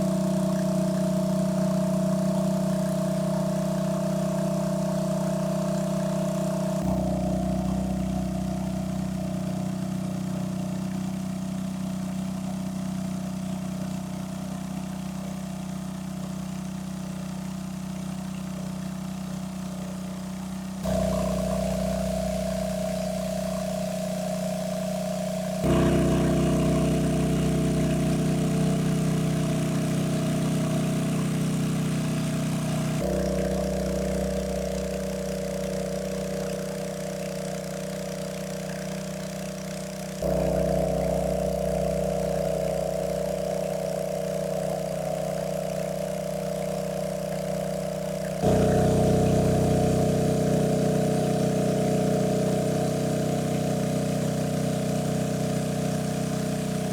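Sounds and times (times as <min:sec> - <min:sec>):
small engine running: 0:00.0 - 0:56.9.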